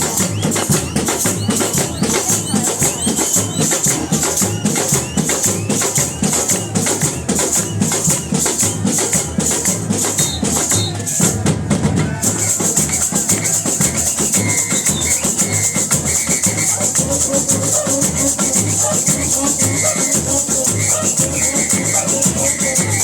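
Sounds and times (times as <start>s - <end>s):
shaker: 0.0s - 11.5s, 12.1s - 23.0s
bass drums: 0.0s - 23.0s
snare drum patter: 0.0s - 23.0s.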